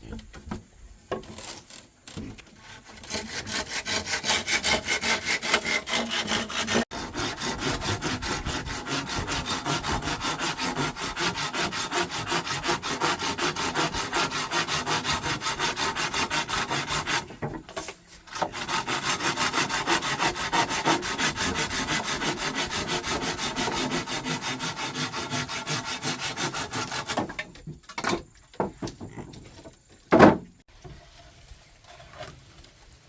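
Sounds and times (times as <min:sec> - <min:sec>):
hand saw cutting wood: 0:01.1 - 0:27.6.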